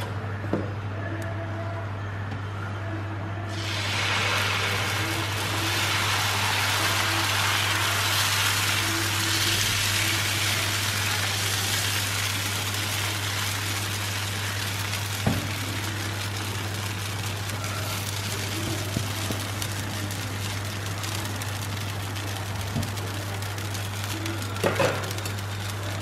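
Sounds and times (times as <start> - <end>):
batter sizzling on a griddle: 3.5 - 26.0.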